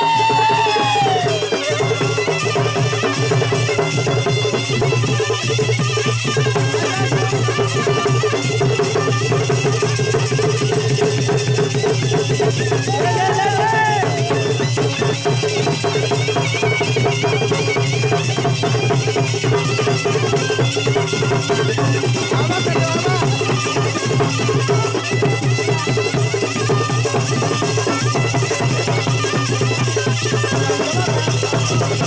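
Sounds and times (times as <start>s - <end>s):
hand cymbals clashing: 0.0s - 32.0s
large drums beating fast rhythm: 0.0s - 32.0s.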